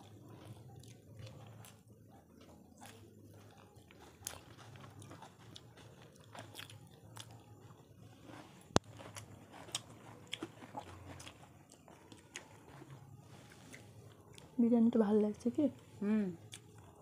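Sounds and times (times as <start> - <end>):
people chewing: 0.0 - 15.6, 16.2 - 17.0.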